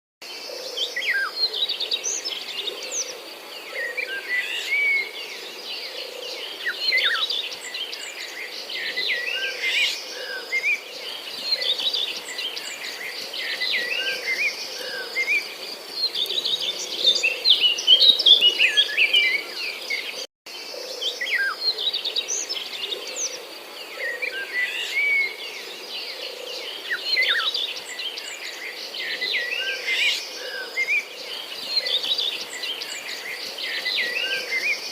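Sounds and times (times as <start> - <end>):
birds chirping and calling: 0.4 - 34.9.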